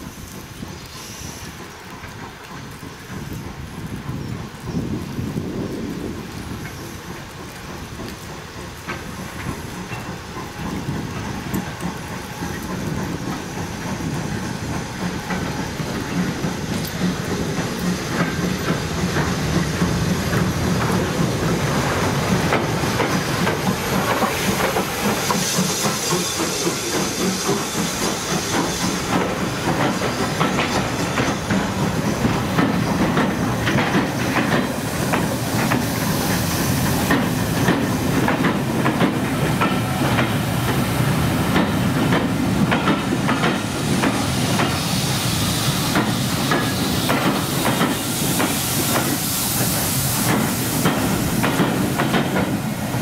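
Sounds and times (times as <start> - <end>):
hissing steam: 0.0 - 53.0
steam locomotive passing: 0.0 - 53.0
wheels clattering over rail joints: 1.6 - 44.8, 50.2 - 53.0.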